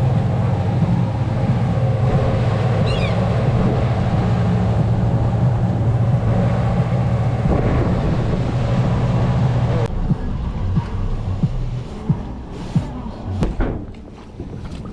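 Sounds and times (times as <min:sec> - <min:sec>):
boat engine droning: 0:00.0 - 0:14.9.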